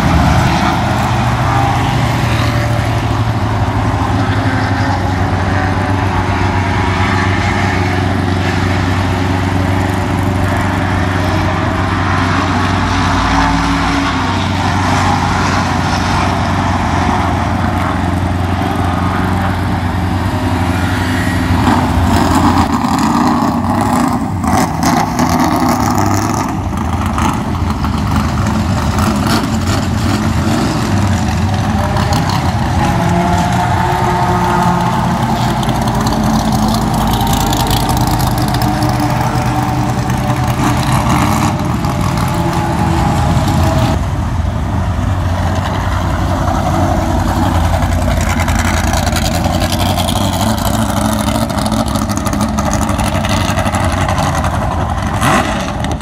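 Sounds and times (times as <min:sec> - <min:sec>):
racing car engines passing slowly: 0:00.0 - 0:56.0.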